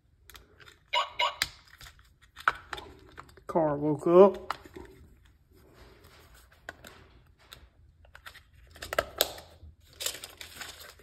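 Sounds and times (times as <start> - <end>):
hands rustling plastic toy: 0.0 - 11.0.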